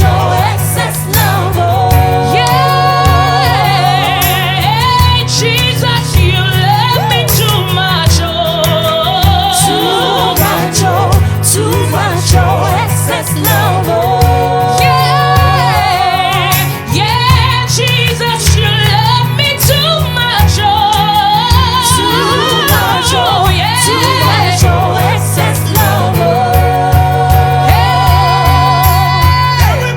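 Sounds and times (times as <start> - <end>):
deep bass: 0.0 - 29.9.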